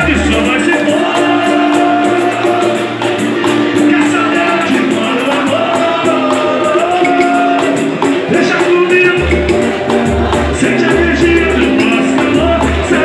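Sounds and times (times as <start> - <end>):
cavaquinho and guitars: 0.0 - 13.0
man singing into a microphone: 0.0 - 13.0
steady percussion beat: 0.0 - 13.0.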